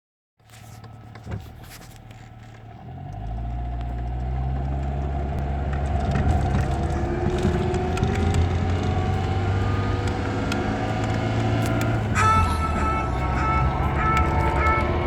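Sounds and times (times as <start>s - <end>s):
car engine accelerating: 0.5s - 15.0s.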